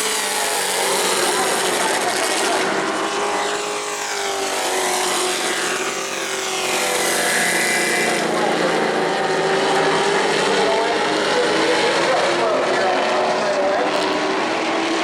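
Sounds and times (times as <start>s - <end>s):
race truck engines passing: 0.0s - 15.0s.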